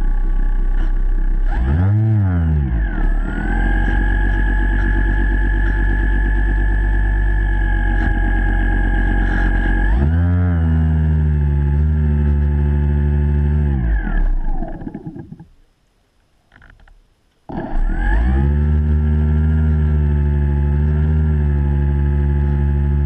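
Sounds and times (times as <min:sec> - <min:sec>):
model boat motor whine: 0:00.0 - 0:15.4, 0:17.5 - 0:23.0.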